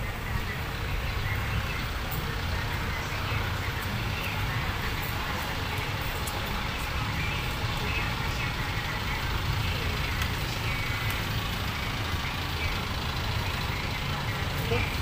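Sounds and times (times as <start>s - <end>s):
truck driving slowly: 0.0s - 15.0s
vehicle engines running: 0.0s - 15.0s.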